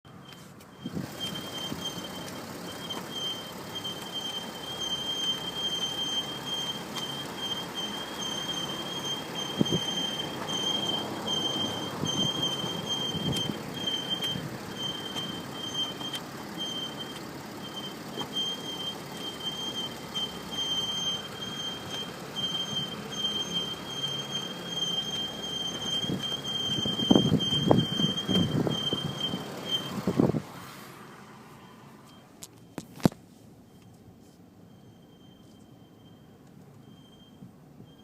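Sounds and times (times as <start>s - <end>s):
steering squeal: 0.1s - 32.9s, 33.6s - 38.0s.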